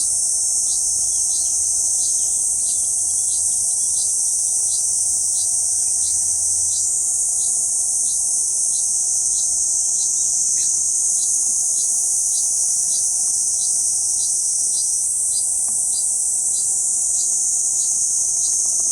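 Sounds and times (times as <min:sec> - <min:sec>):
cicada buzzing drone: 0:00.0 - 0:18.9.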